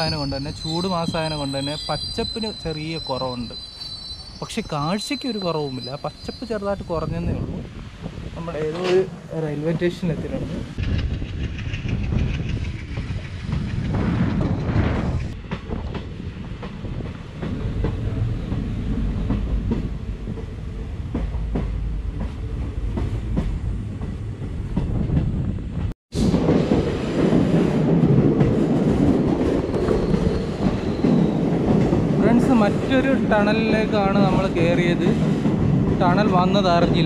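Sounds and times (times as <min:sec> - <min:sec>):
train rumbling along track: 0:00.0 - 0:37.0.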